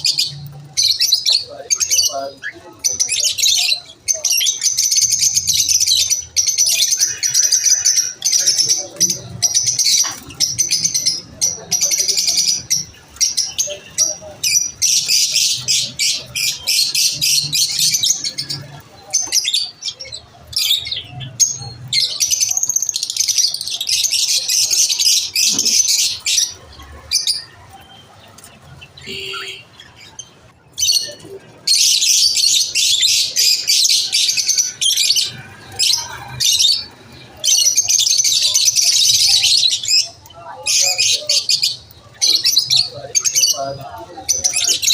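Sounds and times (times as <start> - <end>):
lovebirds chirping and chattering: 0.0 - 44.9.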